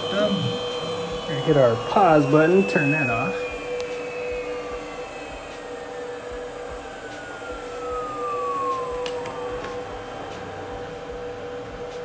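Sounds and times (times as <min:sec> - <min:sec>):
cooling fan hum: 0:00.0 - 0:12.0
spindle whine falling in pitch: 0:00.0 - 0:12.0.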